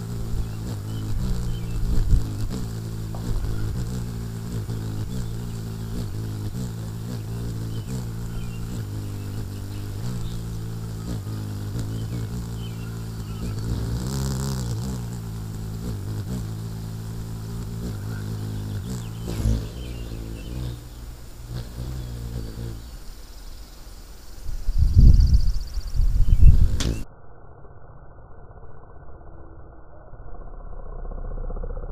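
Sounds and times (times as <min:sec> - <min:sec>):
hummingbird wings humming: 0:00.0 - 0:27.0.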